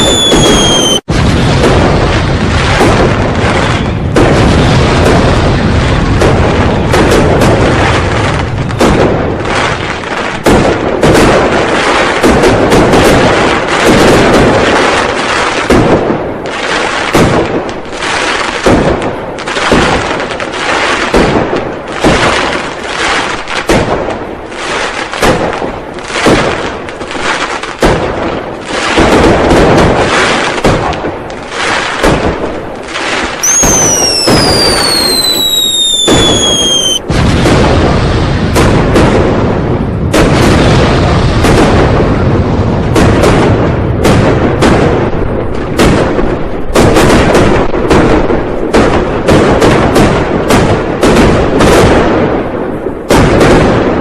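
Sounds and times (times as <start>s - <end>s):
firecrackers and fireworks banging: 0.0s - 54.0s.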